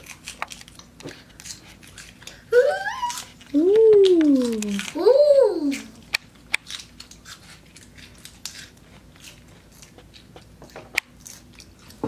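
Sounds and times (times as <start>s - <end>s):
crunching lettuce: 0.0s - 12.0s.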